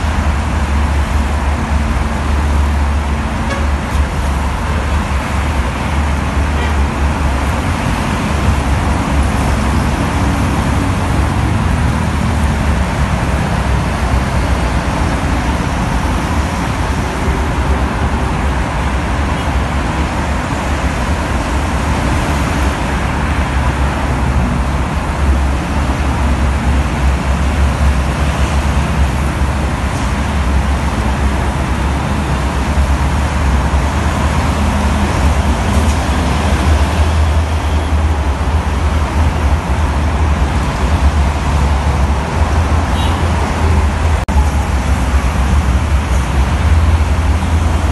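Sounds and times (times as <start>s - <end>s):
highway traffic rumble: 0.0s - 47.9s.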